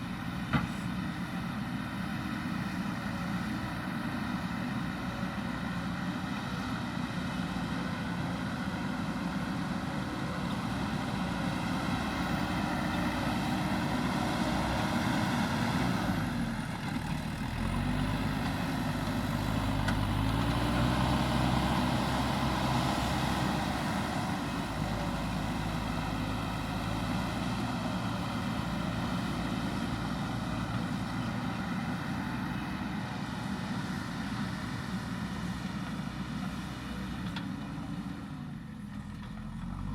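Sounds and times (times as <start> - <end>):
heavy machine diesel engine: 0.0 - 39.9.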